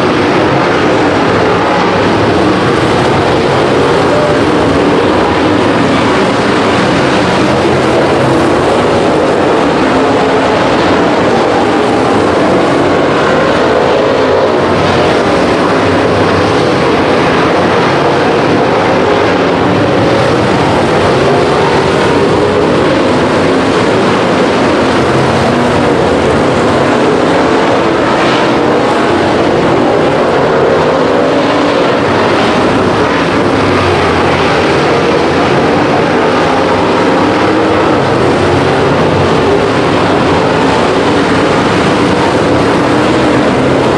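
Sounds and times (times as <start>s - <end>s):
race car engines: 0.0s - 43.9s.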